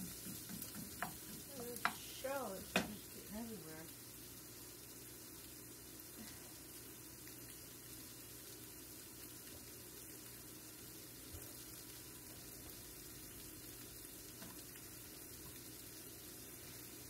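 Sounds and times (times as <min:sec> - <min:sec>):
onions sizzling in a skillet: 0:00.0 - 0:17.0.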